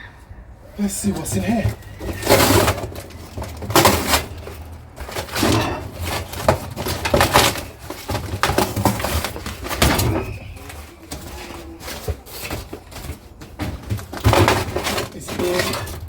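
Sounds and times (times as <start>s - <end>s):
household items clattering and scraping: 0.8s - 16.0s.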